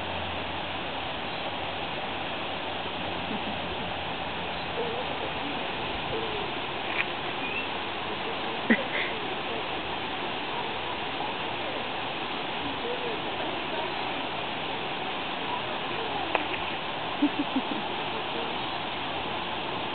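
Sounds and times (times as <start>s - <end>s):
running water: 0.0s - 19.9s.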